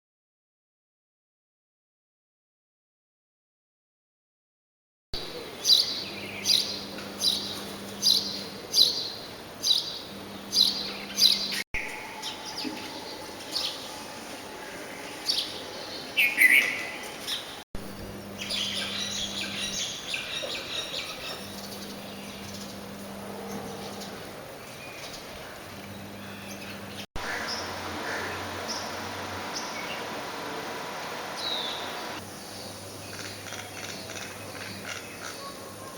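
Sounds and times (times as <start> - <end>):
birds twittering: 5.2 - 35.9
small birds chirping: 5.5 - 14.0, 14.6 - 35.5.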